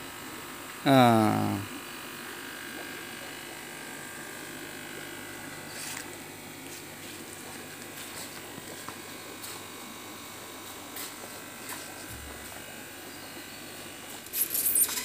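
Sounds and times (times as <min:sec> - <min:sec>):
pump motor humming: 0:00.0 - 0:15.0.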